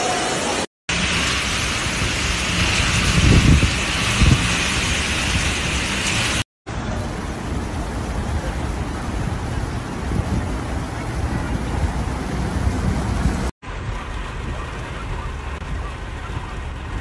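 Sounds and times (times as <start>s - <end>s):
torrential rain pouring: 0.0s - 17.0s
cars driving through water: 0.3s - 17.0s
deep thunder rumbles: 0.9s - 5.8s, 6.7s - 17.0s.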